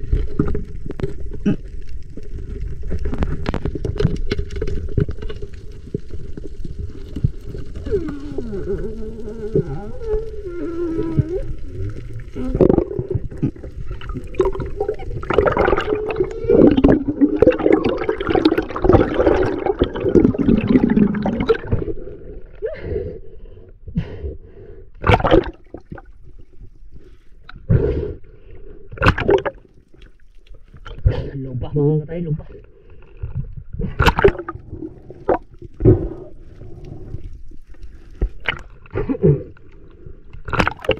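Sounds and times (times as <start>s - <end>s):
water rushing underwater: 0.0s - 23.0s, 25.0s - 27.1s, 29.0s - 30.2s, 33.3s - 40.9s.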